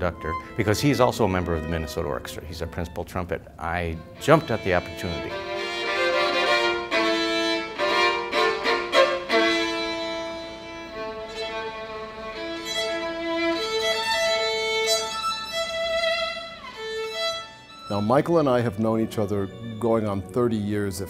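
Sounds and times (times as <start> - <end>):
violin section playing: 0.0 - 21.0.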